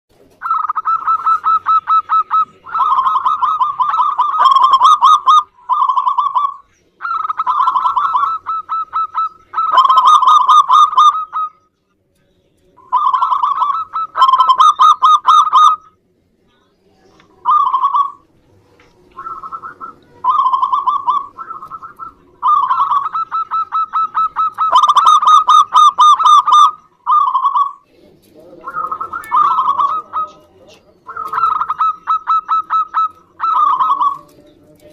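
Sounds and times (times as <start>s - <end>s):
dove cooing: 0.2s - 11.7s, 12.8s - 16.0s, 17.2s - 34.9s.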